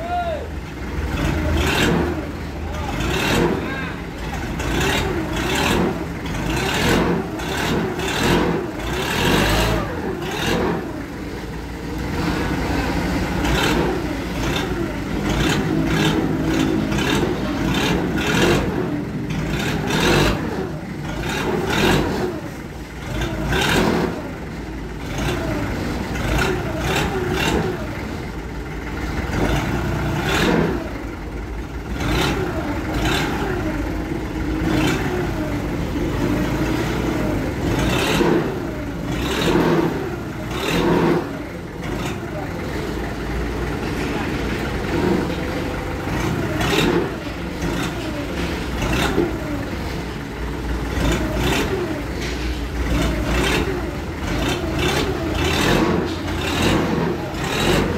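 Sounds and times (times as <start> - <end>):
forklift engine revving: 0.0 - 57.9.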